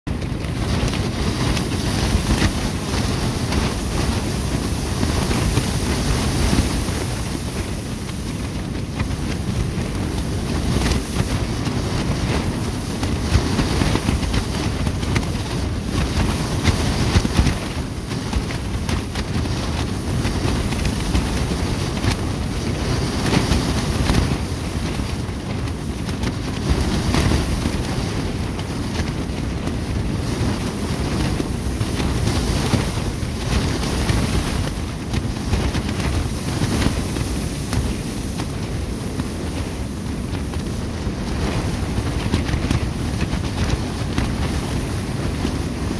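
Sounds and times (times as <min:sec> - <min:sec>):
wind rumble on microphone: 0:00.0 - 0:45.9
plastic sheeting crackling and flapping: 0:00.1 - 0:45.9.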